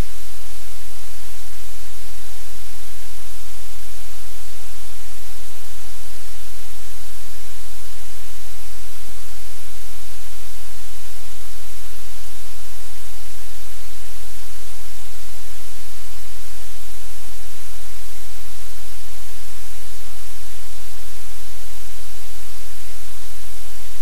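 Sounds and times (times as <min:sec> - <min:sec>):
static-like hiss: 0:00.0 - 0:24.0.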